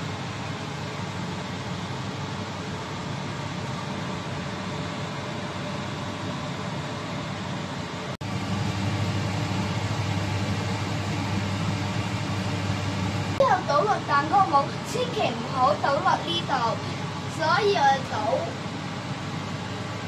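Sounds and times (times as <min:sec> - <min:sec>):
mechanical whirring hum: 0:00.0 - 0:20.0.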